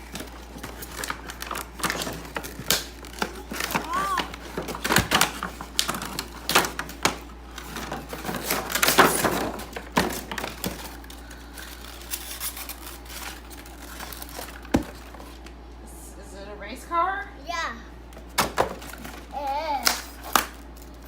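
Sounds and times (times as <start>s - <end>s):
plastic packaging crinkling: 0.0s - 15.6s, 18.6s - 21.0s.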